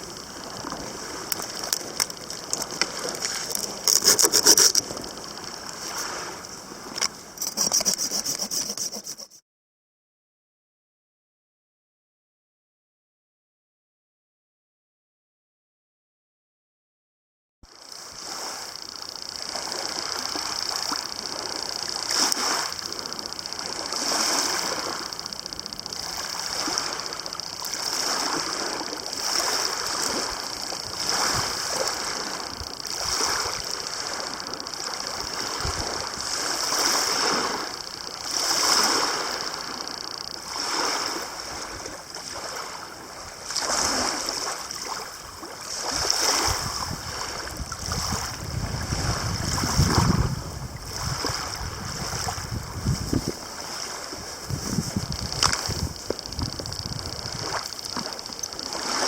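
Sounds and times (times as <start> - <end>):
water lapping against shore: 0.0 - 9.3, 17.7 - 59.0.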